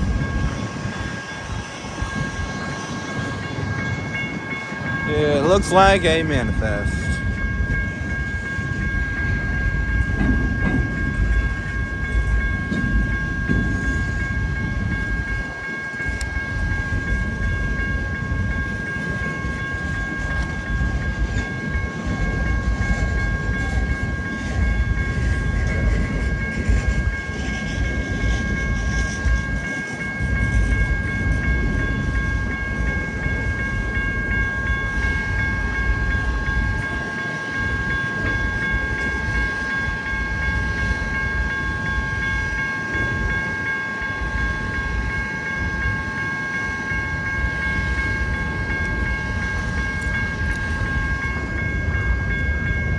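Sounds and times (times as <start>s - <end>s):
freight train rumbling on rails: 0.0s - 52.9s
steady high-pitched tone: 0.0s - 52.9s.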